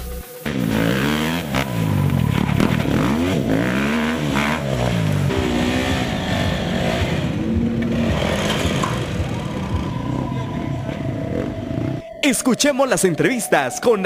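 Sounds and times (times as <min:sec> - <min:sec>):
dirt bike engines revving: 0:00.4 - 0:12.1.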